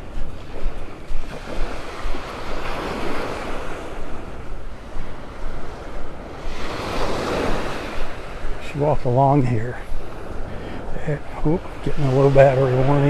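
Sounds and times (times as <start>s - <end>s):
waves washing up beach: 0.0s - 13.0s
wind buffeting microphone: 0.0s - 13.0s.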